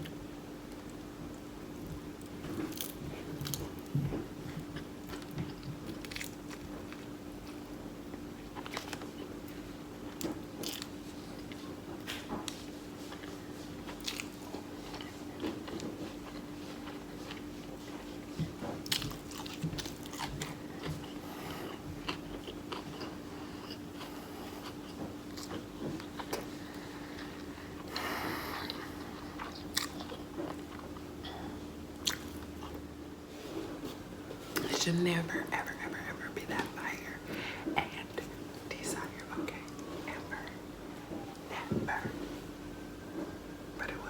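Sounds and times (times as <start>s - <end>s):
chewing and crunching food: 0.0s - 44.0s
steady low hum: 0.0s - 44.0s.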